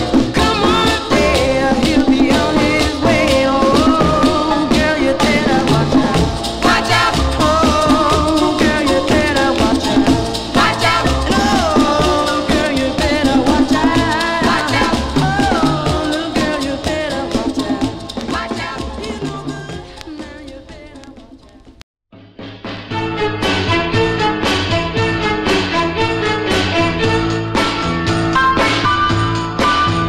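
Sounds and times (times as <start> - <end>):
oldies record with beat and melody: 0.0 - 21.8, 22.4 - 30.0.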